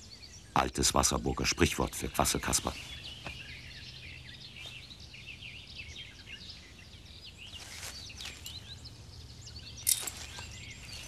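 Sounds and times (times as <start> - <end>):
small birds twittering: 0.0 - 11.0.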